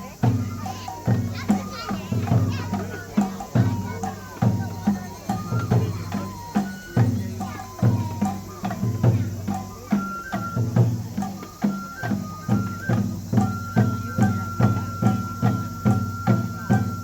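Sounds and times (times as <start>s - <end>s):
taiko drum beating: 0.0s - 17.0s.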